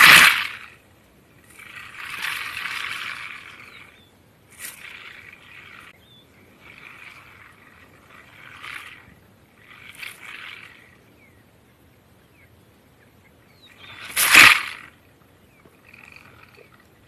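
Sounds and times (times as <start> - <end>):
porcupine quills rattling: 0.0 - 11.6, 13.4 - 17.0.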